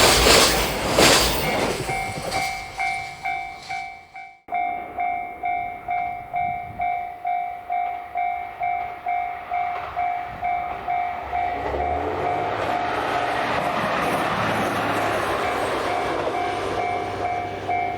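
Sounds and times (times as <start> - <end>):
level crossing warning bell: 0.0 - 17.9
train rumble: 0.0 - 17.9.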